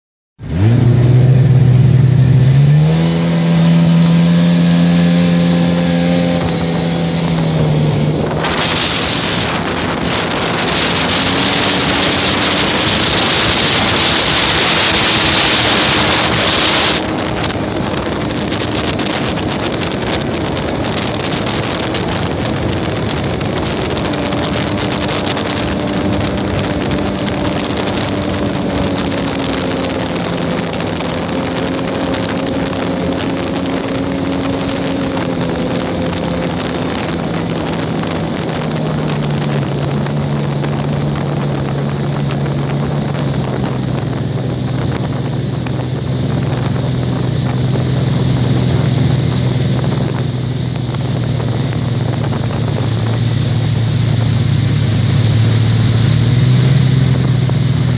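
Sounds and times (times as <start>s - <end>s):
watercraft engine droning: 0.4s - 57.9s.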